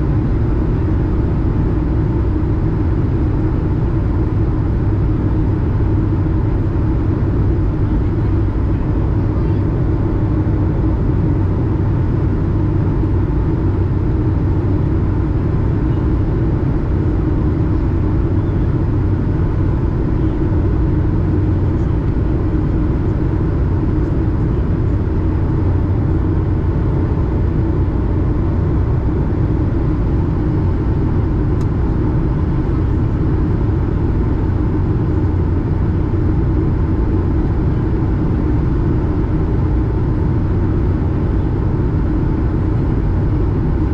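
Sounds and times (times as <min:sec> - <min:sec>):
faint steady whine: 0:00.0 - 0:43.9
jet engines droning: 0:00.0 - 0:43.9.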